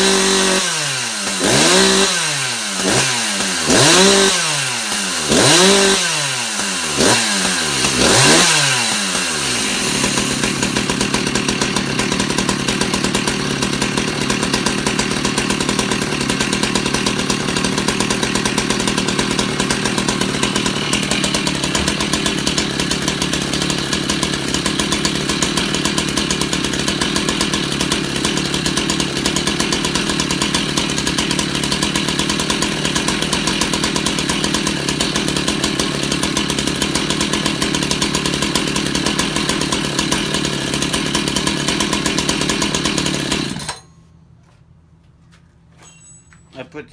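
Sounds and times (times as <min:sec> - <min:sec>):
chainsaw revving and idling: 0:00.0 - 0:44.0.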